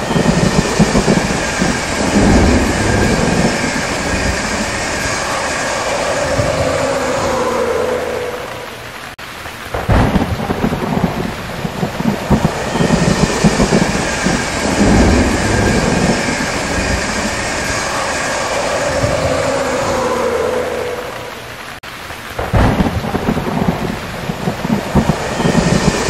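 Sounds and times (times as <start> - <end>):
steady rain: 0.0 - 26.0
thunder clap and rumble: 0.0 - 26.0.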